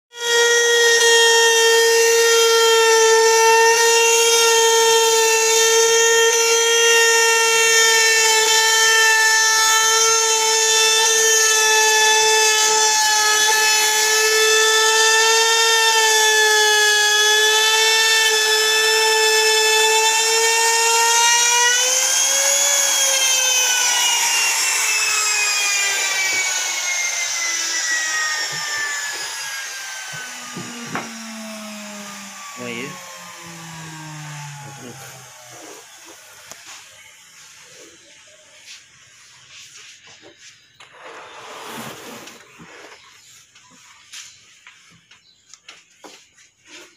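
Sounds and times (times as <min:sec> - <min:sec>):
trim router whining: 0:00.1 - 0:38.9, 0:40.8 - 0:43.2.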